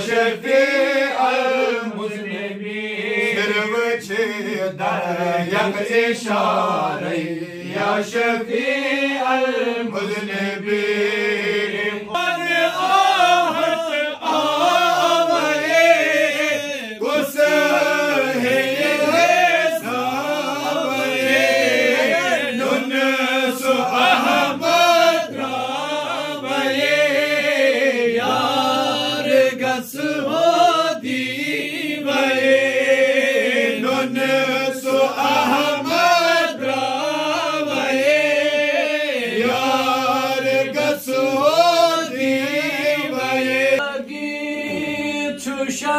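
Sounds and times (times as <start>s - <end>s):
men chanting together: 0.0s - 45.9s.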